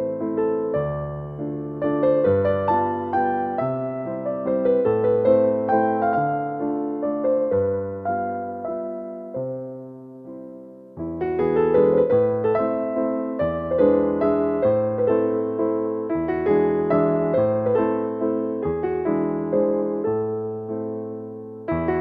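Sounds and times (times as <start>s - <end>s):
calm piano music: 0.0s - 22.0s.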